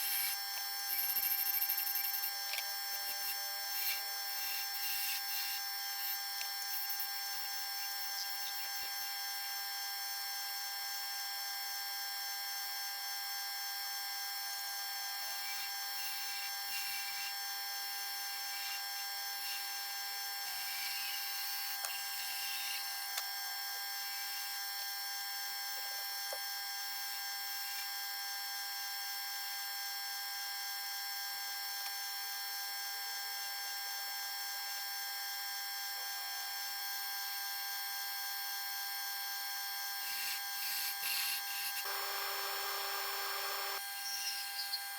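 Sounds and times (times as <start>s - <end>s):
high-pitched electrical hum: 0.0s - 30.2s, 31.1s - 44.9s.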